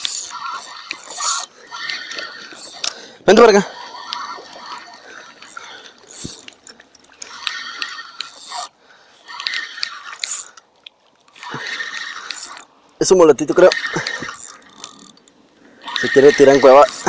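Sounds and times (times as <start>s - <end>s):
fishing reel whirring and clicking: 0.0s - 10.6s, 11.3s - 17.0s.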